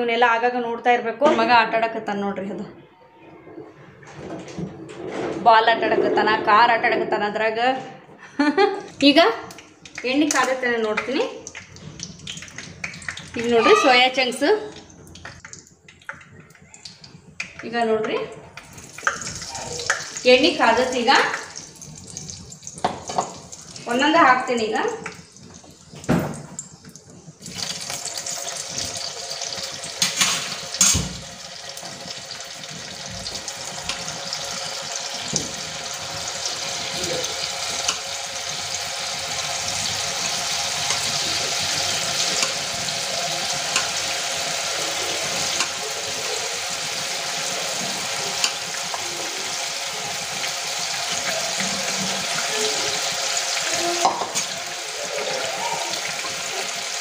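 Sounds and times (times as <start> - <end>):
food deep-frying in oil: 8.5 - 57.0.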